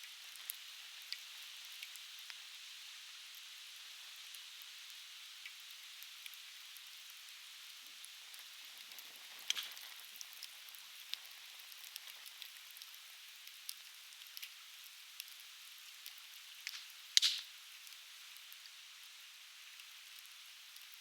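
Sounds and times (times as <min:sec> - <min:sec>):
firewood crackling and popping: 0:00.0 - 0:02.5, 0:04.2 - 0:18.7, 0:19.6 - 0:21.0.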